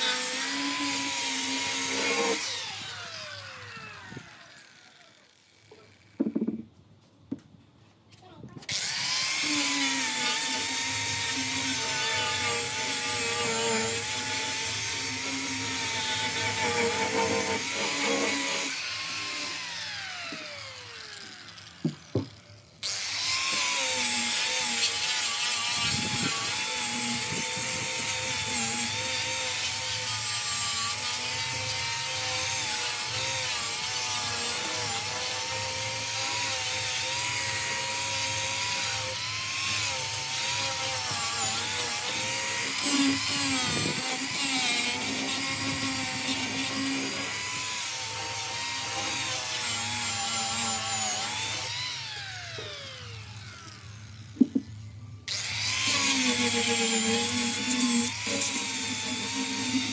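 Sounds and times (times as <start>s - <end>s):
power tool motor cutting wood: 0.0s - 6.6s, 8.7s - 59.9s.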